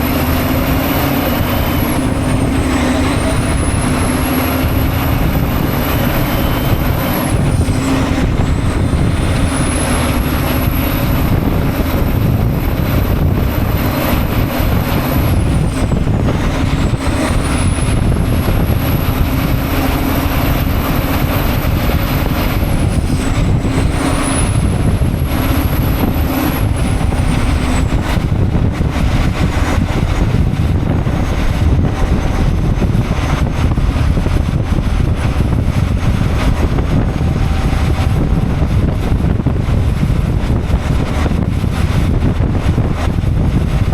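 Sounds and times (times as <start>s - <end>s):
truck engine and road noise: 0.0s - 43.9s
very high whine: 0.0s - 43.9s.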